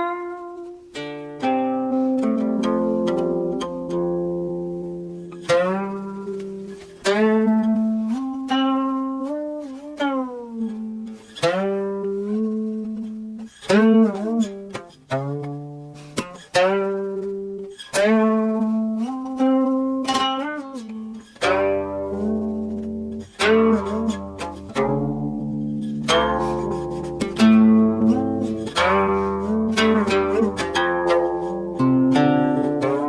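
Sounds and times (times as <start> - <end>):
plucked string instrument melody: 0.0 - 33.0.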